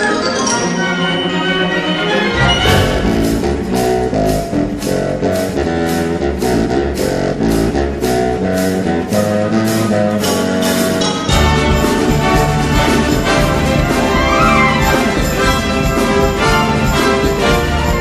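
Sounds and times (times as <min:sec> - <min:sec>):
contrabassoon and orchestra: 0:00.0 - 0:18.0
steady percussion beat: 0:02.4 - 0:18.0.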